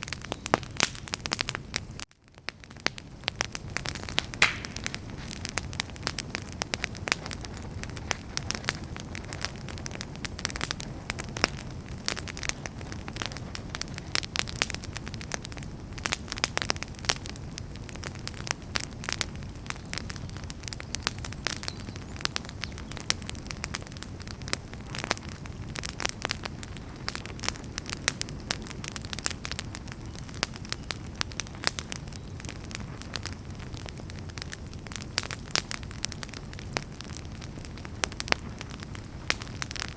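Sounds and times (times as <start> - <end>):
fire rumbling: 0.0 - 39.9
firewood crackling and popping: 0.0 - 39.9.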